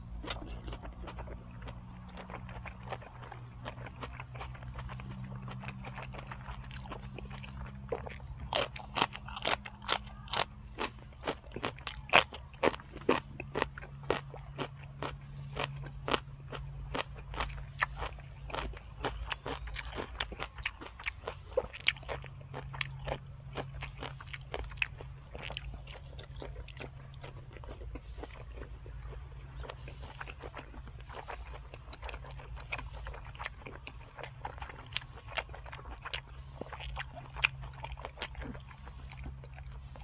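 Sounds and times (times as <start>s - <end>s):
faint low hum: 0.0s - 40.0s
person chewing crunchy food: 0.0s - 40.0s.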